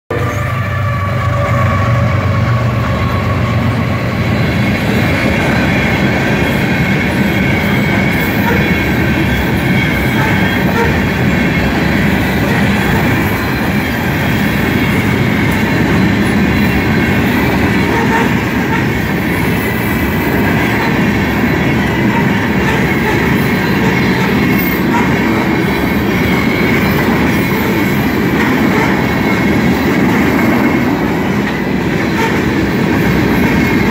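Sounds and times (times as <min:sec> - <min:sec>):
diesel locomotive engine: 0:00.1 - 0:33.9
high wheel squeal: 0:00.1 - 0:33.9
train wheels rumbling and clacking: 0:00.1 - 0:33.9.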